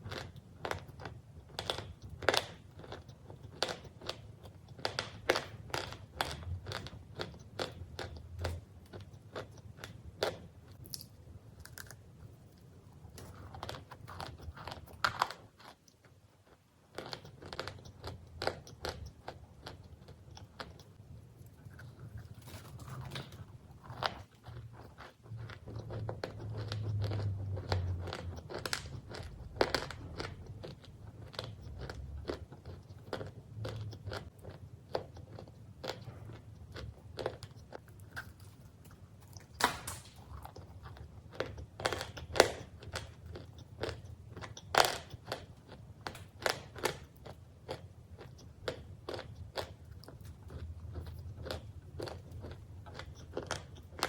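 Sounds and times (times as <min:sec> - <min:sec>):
chewing crunchy cookies: 0:00.0 - 0:54.0.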